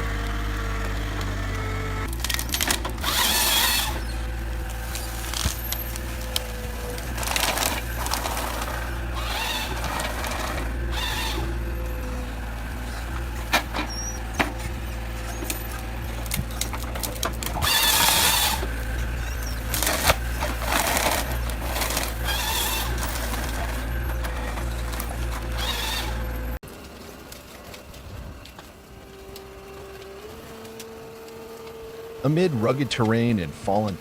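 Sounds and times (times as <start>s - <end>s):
heavy machinery engine drone: 0.0s - 34.0s.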